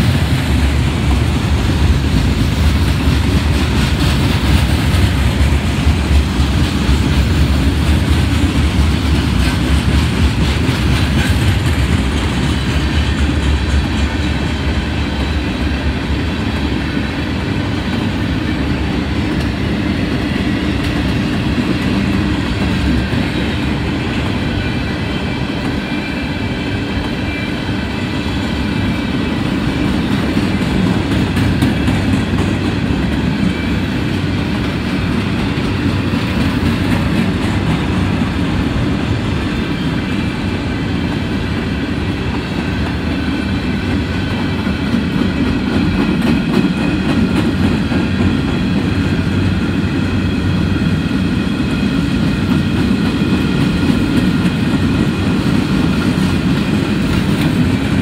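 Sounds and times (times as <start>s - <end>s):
freight train cars rolling: 0.0s - 58.0s.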